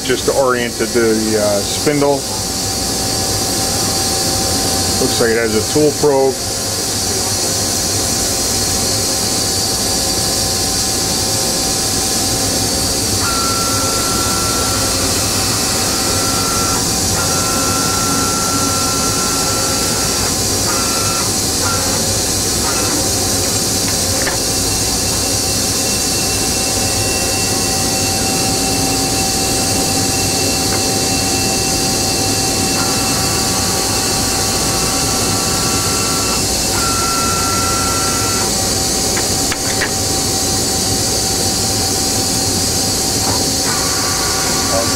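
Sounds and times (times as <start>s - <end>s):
high machine whine: 0.0s - 44.9s
machine humming and hissing: 0.0s - 44.9s.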